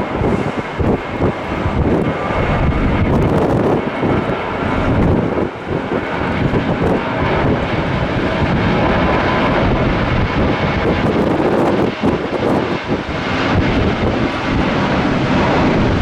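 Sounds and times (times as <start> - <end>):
jet engines rumbling at takeoff: 0.0 - 16.0.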